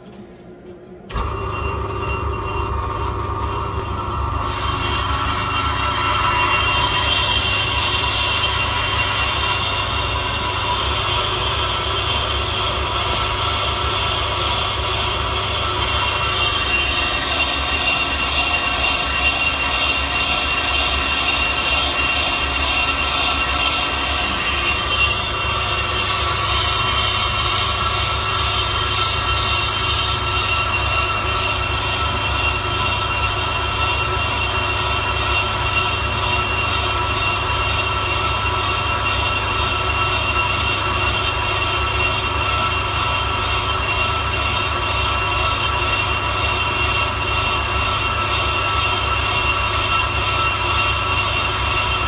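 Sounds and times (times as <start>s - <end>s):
brake lathe motor hum: 1.1s - 52.0s
metallic whine of disc cutting: 1.1s - 52.0s.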